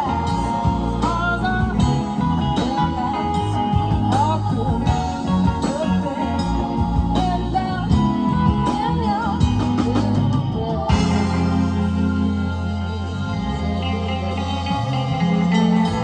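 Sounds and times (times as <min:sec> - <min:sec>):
live rock band playing: 0:00.0 - 0:16.0
wavering lead melody: 0:00.0 - 0:16.0.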